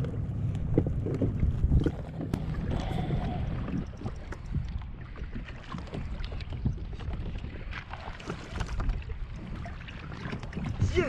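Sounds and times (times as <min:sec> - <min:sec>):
water slapping kayak hull: 0:00.0 - 0:11.0.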